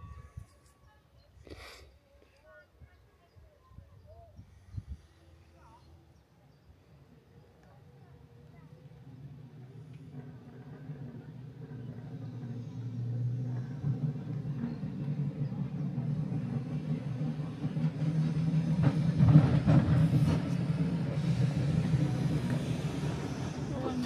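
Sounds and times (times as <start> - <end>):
tram rumbling along track: 2.4 - 24.0.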